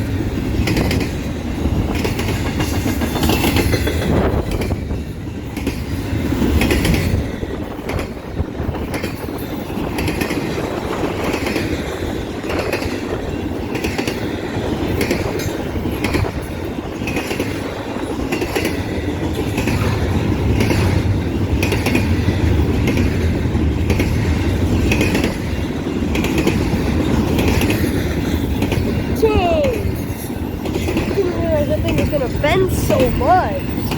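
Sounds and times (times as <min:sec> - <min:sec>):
freight train cars rumbling past: 0:00.0 - 0:33.9
train wheels clicking over track: 0:00.0 - 0:33.9.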